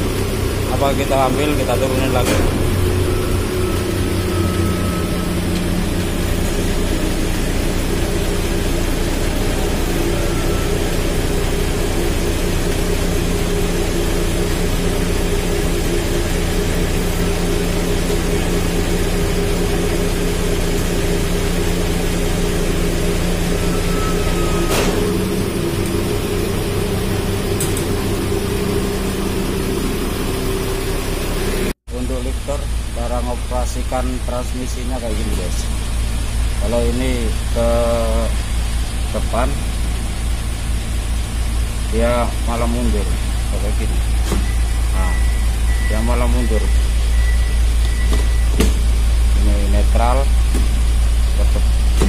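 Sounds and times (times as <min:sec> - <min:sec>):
diesel truck engine droning: 0:00.0 - 0:52.0.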